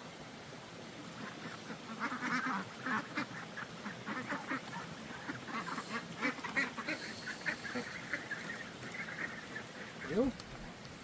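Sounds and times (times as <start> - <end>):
fowl calling: 1.2 - 10.6.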